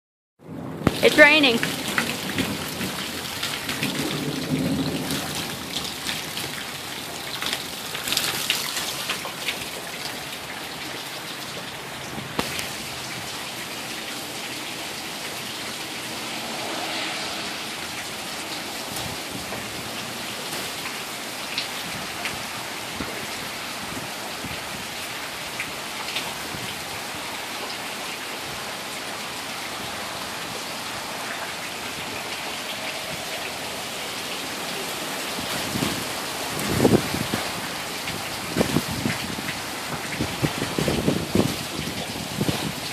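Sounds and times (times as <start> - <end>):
steady rain falling: 0.4 - 42.9
raindrops tapping close by: 0.5 - 16.5, 18.0 - 42.9.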